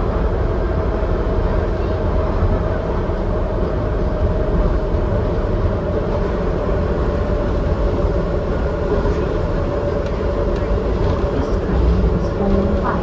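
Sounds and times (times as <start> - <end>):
train rumbling with whine: 0.0 - 13.0.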